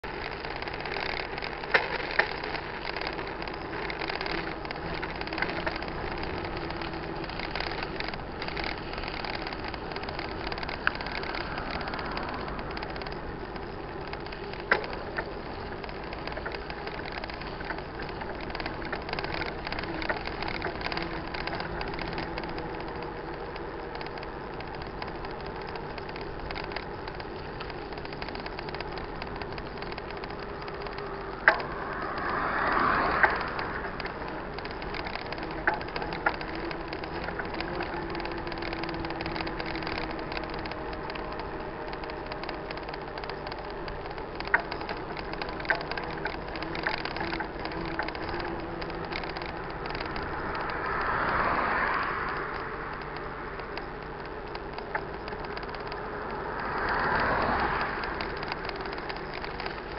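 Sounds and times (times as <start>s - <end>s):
bicycle tyres on dirt road: 0.0s - 59.9s.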